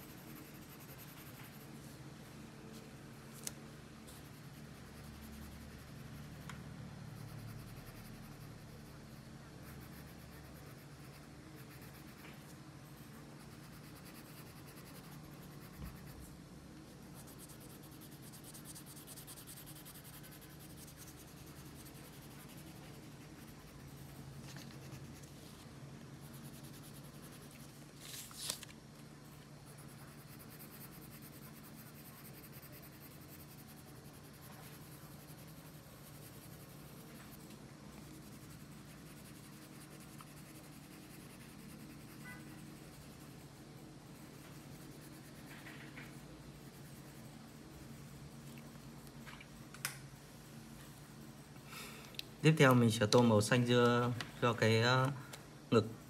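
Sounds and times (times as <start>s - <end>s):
pencil scratching on paper: 0.0s - 1.9s, 4.1s - 6.5s, 7.1s - 28.2s, 29.3s - 49.0s
steady low hum: 0.0s - 56.0s.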